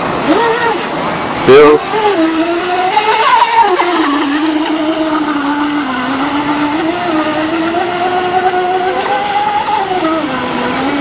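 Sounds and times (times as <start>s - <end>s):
model boat motor whining: 0.0s - 11.0s.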